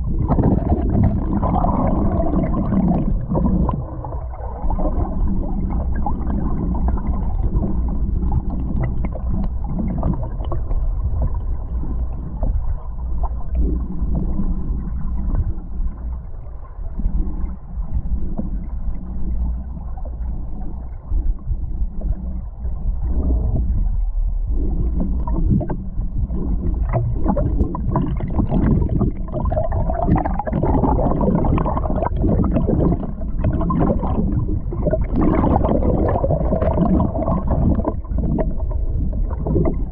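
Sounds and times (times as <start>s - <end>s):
underwater river rushing: 0.0s - 39.9s.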